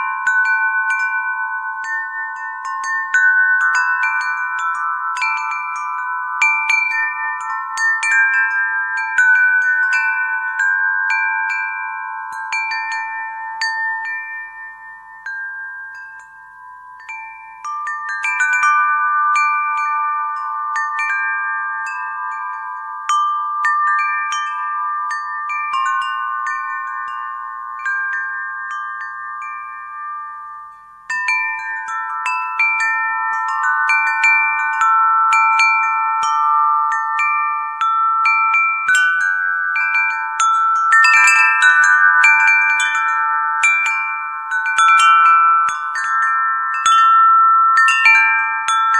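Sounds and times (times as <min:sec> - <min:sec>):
wind chimes ringing: 0:00.0 - 0:48.9.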